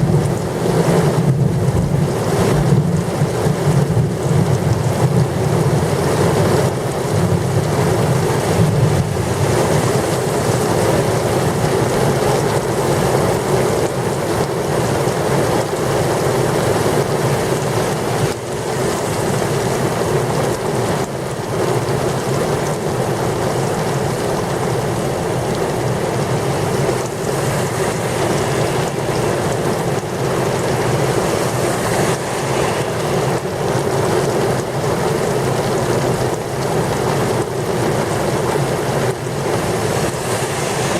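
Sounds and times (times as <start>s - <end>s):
gusty wind: 0.0s - 40.9s
heavy rain pouring: 0.0s - 40.9s.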